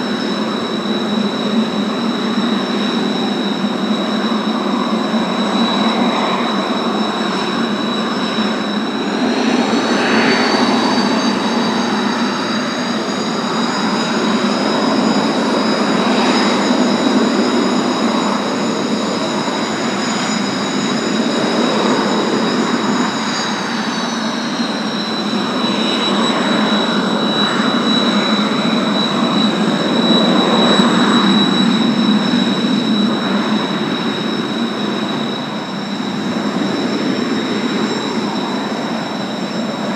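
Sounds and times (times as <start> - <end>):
jet engines running: 0.0 - 39.9
turbine whine: 0.0 - 39.9.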